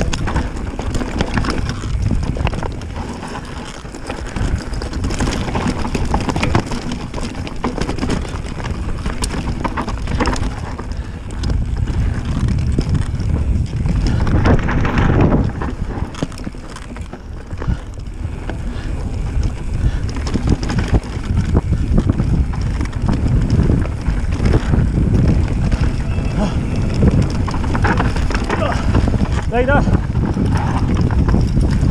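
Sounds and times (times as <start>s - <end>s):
bike knocking and rattling: 0.0s - 31.9s
tyres rumbling on ground: 0.0s - 31.9s
wind on microphone: 0.0s - 31.9s.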